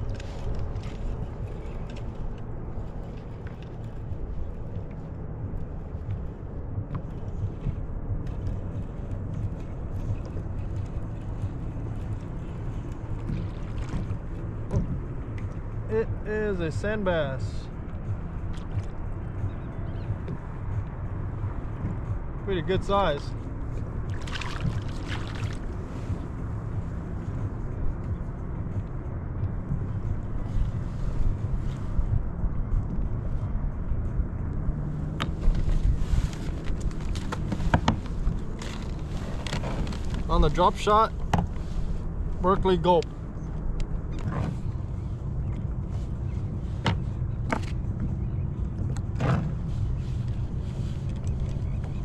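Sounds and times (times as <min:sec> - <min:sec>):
wind rumbling on microphone: 0:00.0 - 0:52.0.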